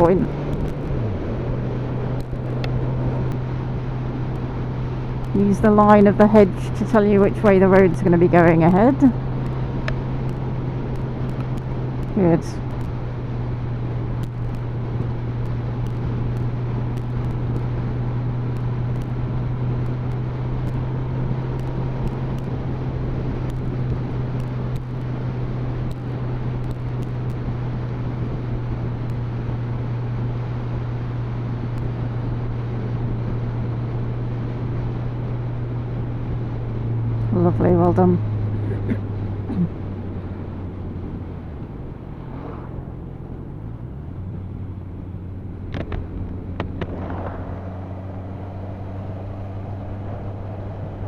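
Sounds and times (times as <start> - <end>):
motorcycle engine cruising: 0.0 - 51.0
wind and road noise: 0.0 - 51.0.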